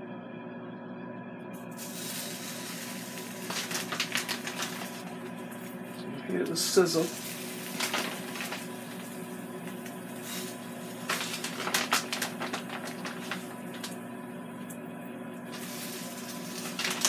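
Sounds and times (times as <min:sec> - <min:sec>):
steady low hum: 0:00.0 - 0:17.0
chicken sizzling on grill: 0:01.6 - 0:14.4, 0:15.4 - 0:17.0
plastic bag crinkling: 0:01.7 - 0:14.0, 0:15.5 - 0:17.0.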